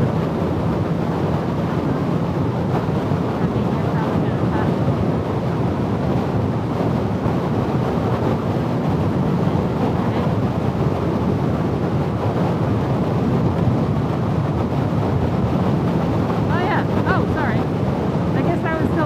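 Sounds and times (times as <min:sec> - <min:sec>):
road noise: 0:00.0 - 0:19.0
wind rushing on microphone: 0:00.0 - 0:19.0.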